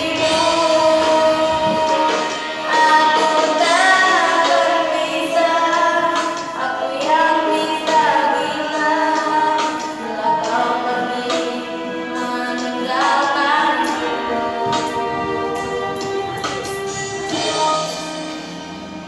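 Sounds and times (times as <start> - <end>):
girl singing into a microphone: 0.0 - 17.9.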